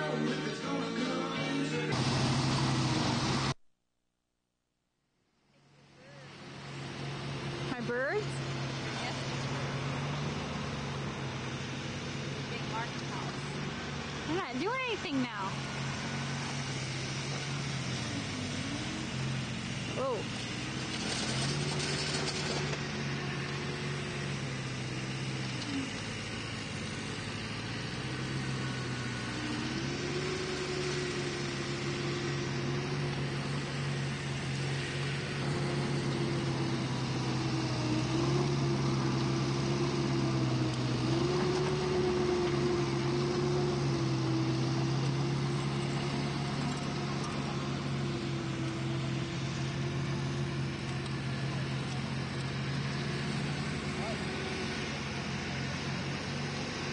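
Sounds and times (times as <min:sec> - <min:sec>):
engine running: 0:00.0 - 0:03.6, 0:05.4 - 0:56.9.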